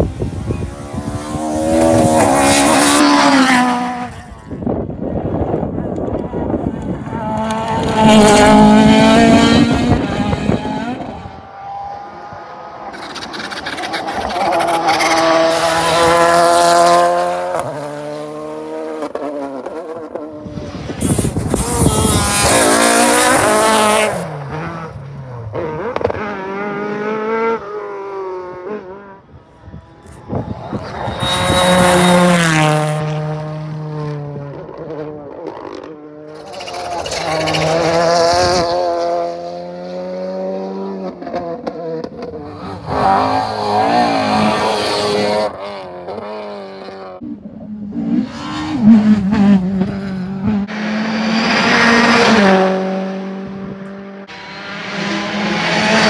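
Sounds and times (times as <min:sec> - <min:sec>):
rally cars passing at speed: 0:00.0 - 0:56.0.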